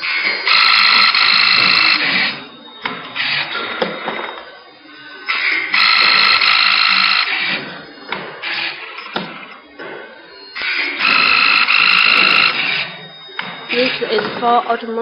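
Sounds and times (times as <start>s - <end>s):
machine high whine: 0.0s - 15.0s.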